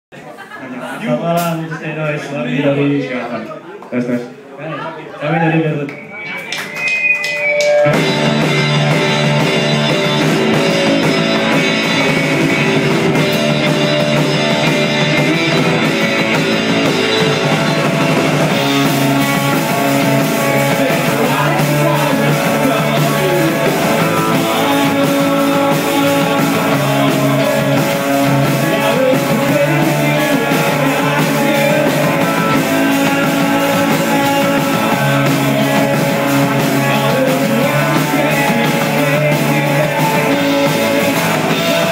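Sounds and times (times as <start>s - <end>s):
distorted electric guitar: 5.8s - 41.9s
drum kit: 5.9s - 41.9s
electric bass: 7.8s - 41.9s.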